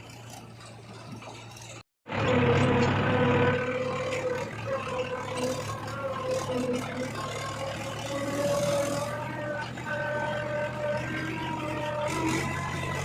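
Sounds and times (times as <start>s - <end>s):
diesel engine running with whine: 0.0s - 13.0s.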